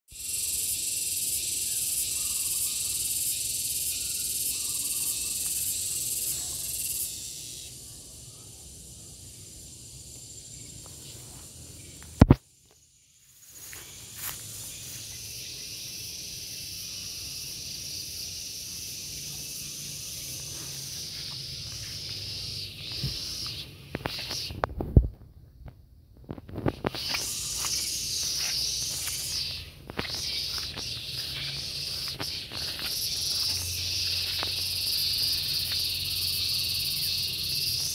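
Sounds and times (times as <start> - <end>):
cicadas buzzing: 0.1 - 37.9.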